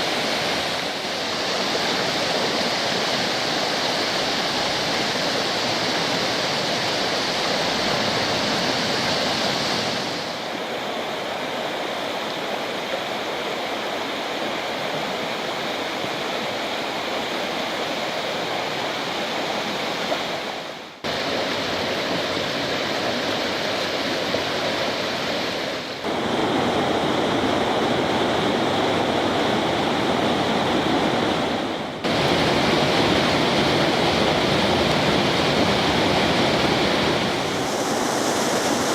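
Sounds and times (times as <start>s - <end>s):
stream rushing over rapids: 0.0s - 38.9s.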